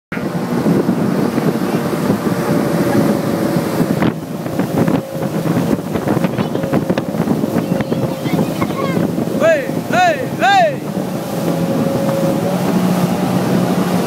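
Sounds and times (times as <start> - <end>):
motorboat engine running: 0.1 - 14.0
wind buffeting microphone: 0.1 - 14.0
wake churning and spraying: 0.2 - 14.0.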